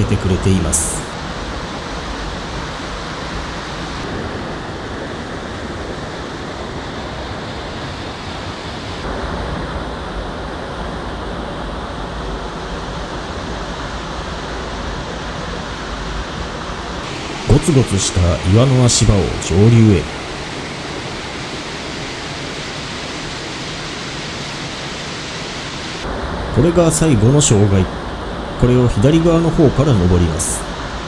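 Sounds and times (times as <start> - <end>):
water rushing over waterfall: 0.2 - 31.0.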